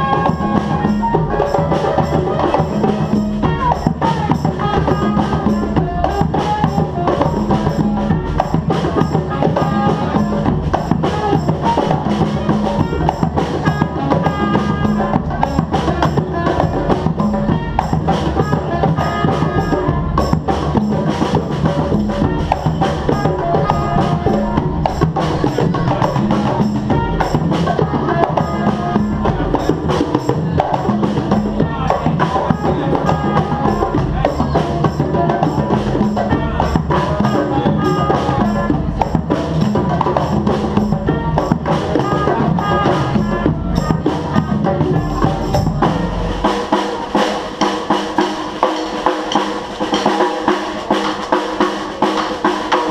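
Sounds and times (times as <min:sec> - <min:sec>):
live band playing drum-led music: 0:00.0 - 0:52.9.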